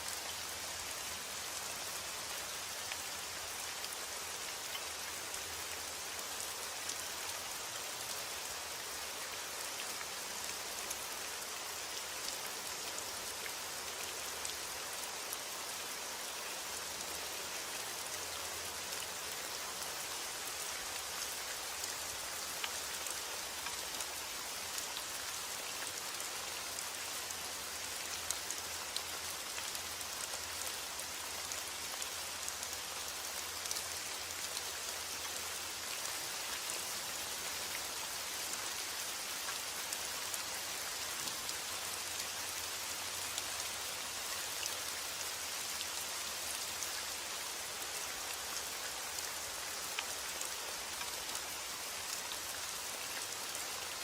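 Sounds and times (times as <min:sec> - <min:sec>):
rain falling on a surface: 0:00.0 - 0:54.0.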